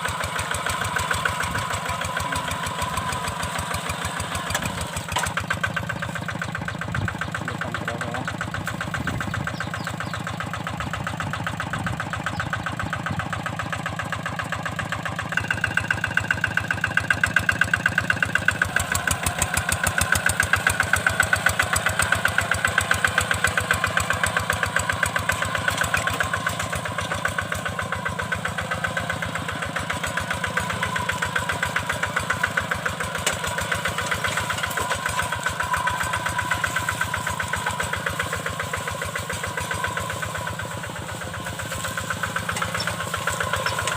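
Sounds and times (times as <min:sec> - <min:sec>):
diesel engine chugging: 0:00.0 - 0:43.9.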